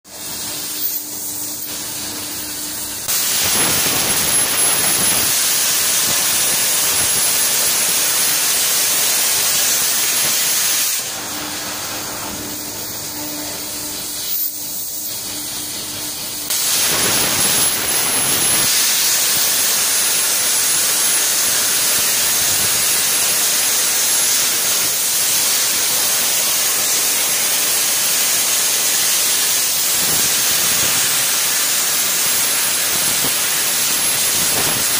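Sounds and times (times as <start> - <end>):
plasma torch hissing: 0.1 - 34.9.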